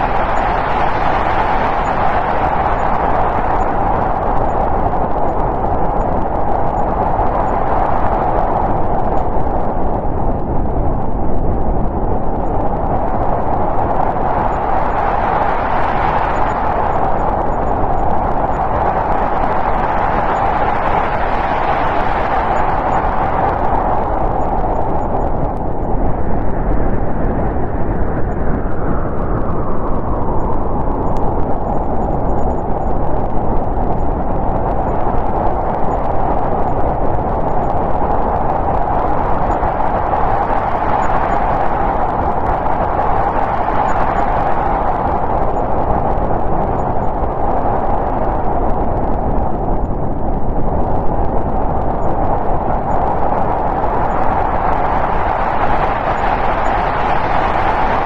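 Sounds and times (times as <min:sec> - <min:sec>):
snowstorm wind gusting: 0:00.0 - 0:58.0.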